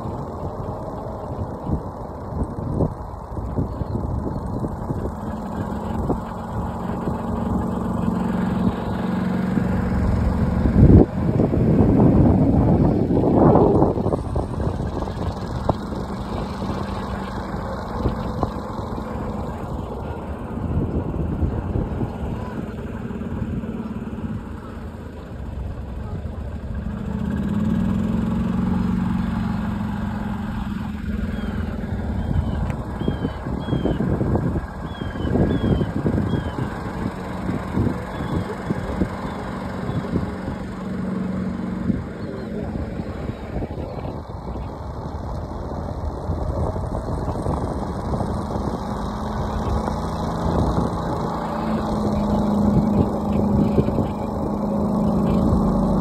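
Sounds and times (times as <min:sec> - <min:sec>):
small engine running: 0:00.0 - 0:56.0
wind rumble on microphone: 0:00.0 - 0:56.0.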